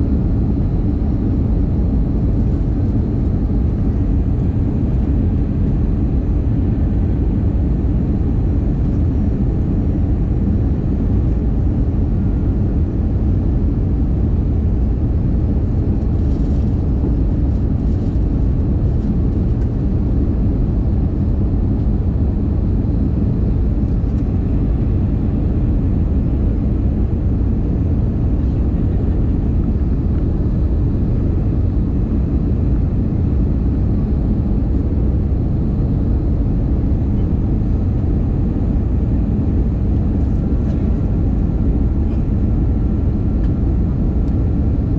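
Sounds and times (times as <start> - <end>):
jet engines rumbling in cabin: 0.0 - 44.9.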